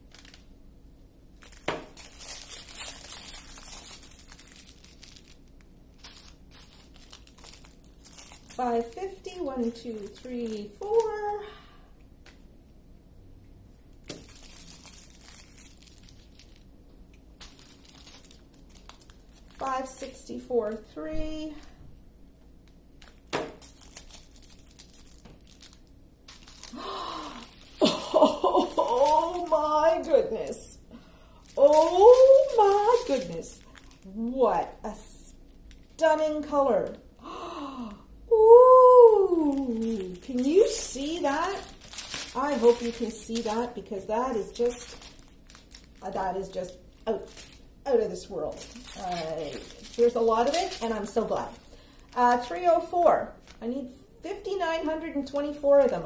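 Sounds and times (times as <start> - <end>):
plastic bags crinkling and rustling: 0.0 - 0.5, 1.4 - 11.6, 13.9 - 16.8, 17.4 - 20.8, 22.6 - 37.0, 38.8 - 56.0.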